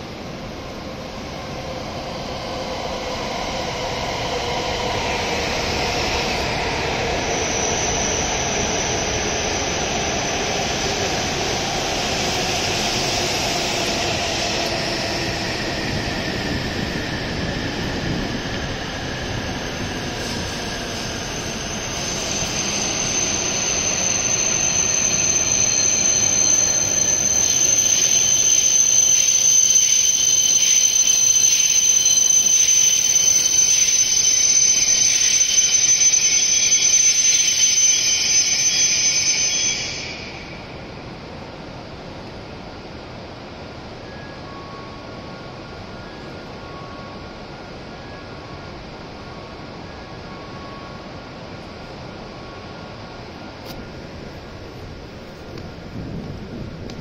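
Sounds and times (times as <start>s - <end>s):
high steady squeal: 0.0s - 57.0s
train running noise: 0.0s - 57.0s
train whine falling in pitch: 0.0s - 57.0s.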